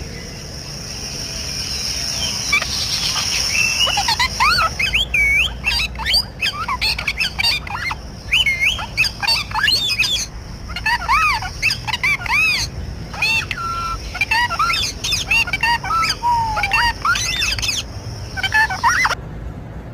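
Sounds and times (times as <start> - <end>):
parrot whistling and squawking: 2.1 - 19.2.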